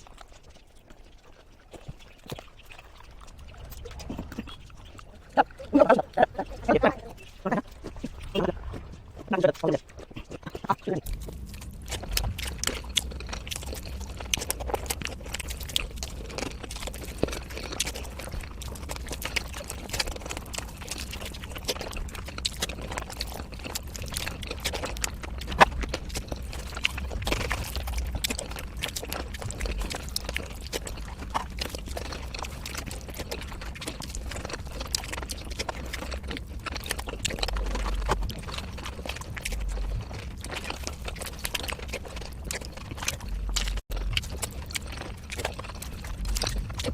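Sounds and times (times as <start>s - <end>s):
sped-up eating clicks and smacks: 0.0s - 46.9s.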